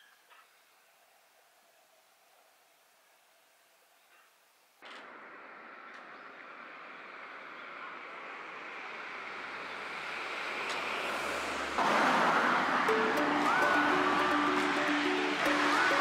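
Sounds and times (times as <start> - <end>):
outdoor ambient rush: 0.0 - 16.0.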